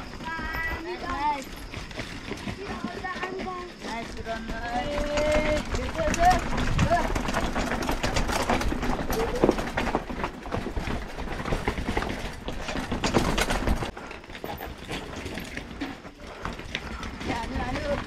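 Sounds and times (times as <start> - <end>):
bike clicking and rattling: 0.0 - 18.0.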